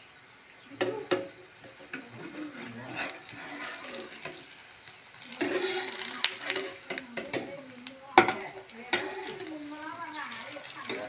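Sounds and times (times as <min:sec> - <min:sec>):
food sizzling in hot oil: 0:00.0 - 0:11.0
ladle scraping a pan: 0:00.8 - 0:11.0.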